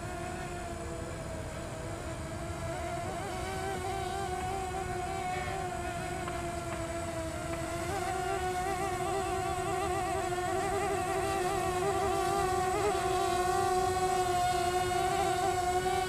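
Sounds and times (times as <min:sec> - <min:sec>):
propeller buzz: 0:00.0 - 0:16.0.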